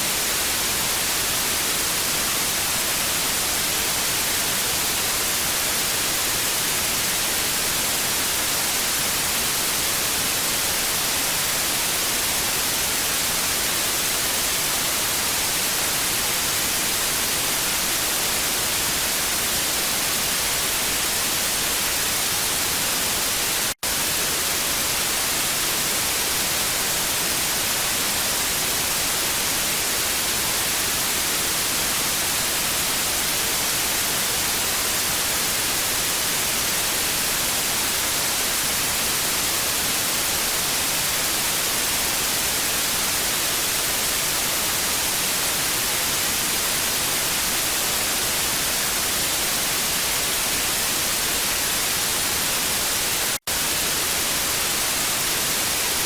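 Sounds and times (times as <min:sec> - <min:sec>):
television static hiss: 0:00.0 - 0:56.0.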